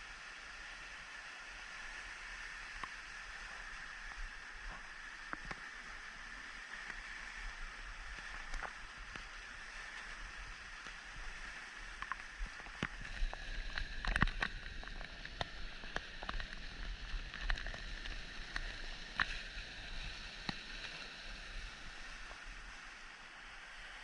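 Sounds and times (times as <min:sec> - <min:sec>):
rushing stream water: 0:00.0 - 0:24.0.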